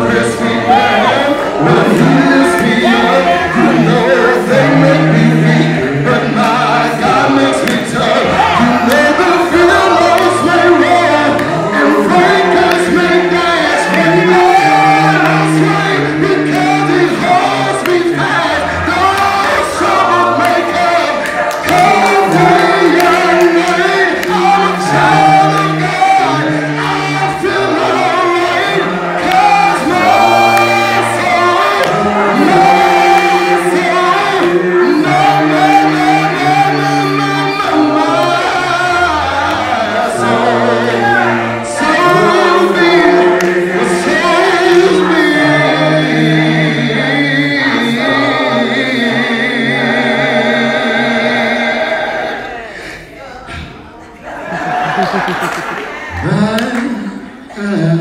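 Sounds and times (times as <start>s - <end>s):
gospel choir singing: 0.0s - 58.0s.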